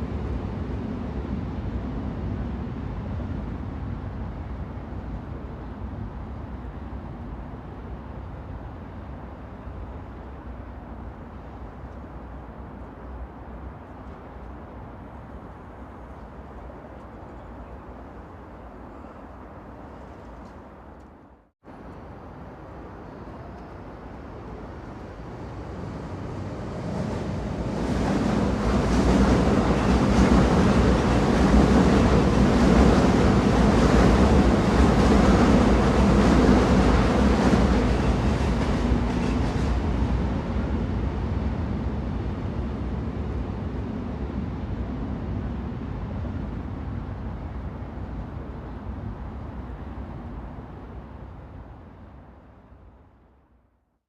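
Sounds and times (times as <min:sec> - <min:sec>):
train rumbling past: 0:00.0 - 0:52.9.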